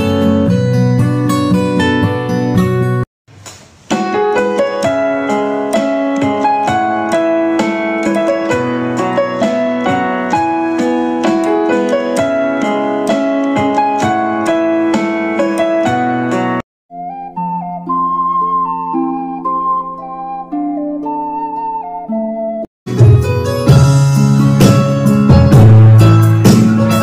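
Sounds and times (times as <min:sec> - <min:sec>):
piano music: 0:00.0 - 0:03.0, 0:03.9 - 0:27.0.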